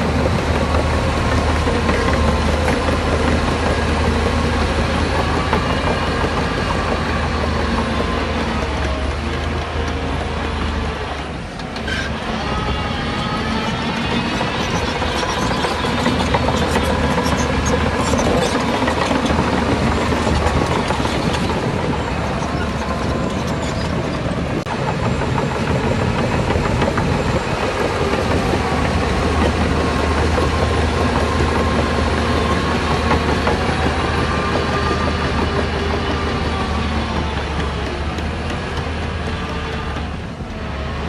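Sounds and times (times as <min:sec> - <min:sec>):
heavy machinery diesel engine: 0:00.0 - 0:41.0.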